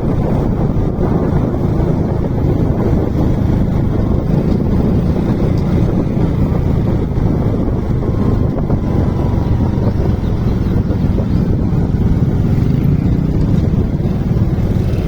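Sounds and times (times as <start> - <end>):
motorcycle engine running: 0.0 - 15.0
wind rushing on microphone: 0.0 - 15.0.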